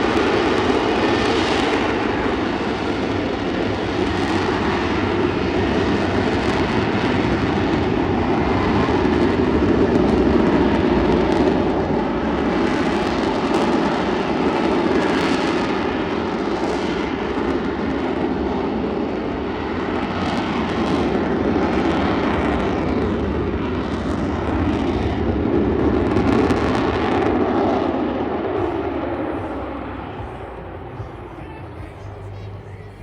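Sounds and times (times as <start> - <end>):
jet engine rushing: 0.0 - 33.0.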